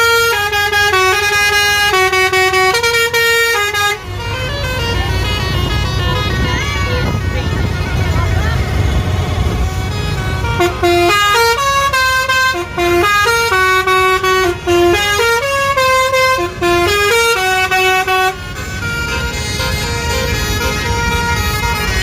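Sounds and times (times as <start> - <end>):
musical horn playing tune: 0.0 - 7.2, 8.6 - 22.0
engine and traffic rumble: 0.0 - 22.0.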